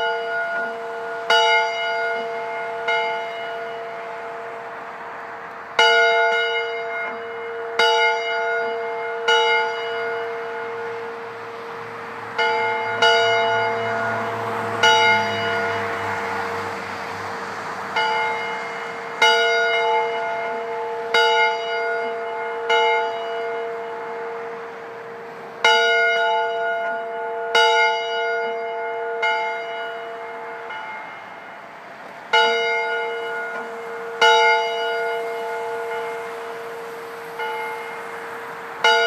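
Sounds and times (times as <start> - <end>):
church bell tolling: 0.0 - 39.0.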